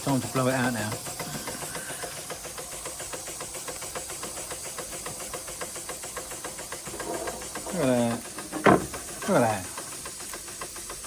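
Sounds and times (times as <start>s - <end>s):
steam engine cylinder beats: 0.0s - 11.0s
steam hissing: 0.0s - 11.0s.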